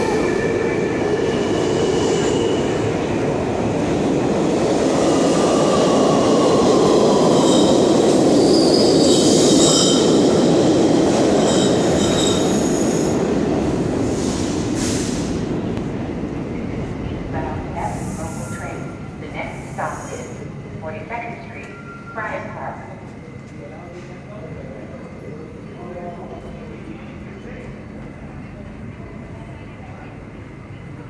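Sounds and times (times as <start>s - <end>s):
subway train wheels rumbling on rails: 0.0s - 31.0s.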